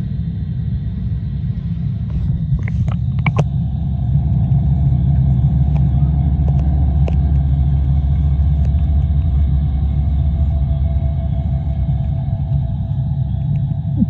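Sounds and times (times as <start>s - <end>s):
underwater rumble: 0.0s - 14.0s.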